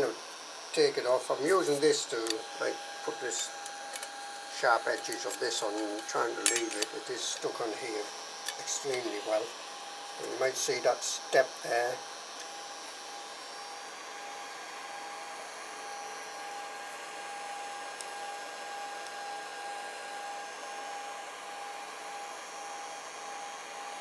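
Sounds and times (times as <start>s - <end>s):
constant high whine: 0.0s - 24.0s
cooling fans whirring: 0.0s - 24.0s.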